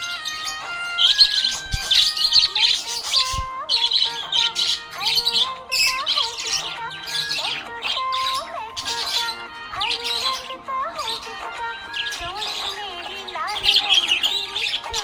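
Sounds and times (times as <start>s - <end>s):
background music: 0.0s - 15.0s
budgie chirping: 0.0s - 15.0s.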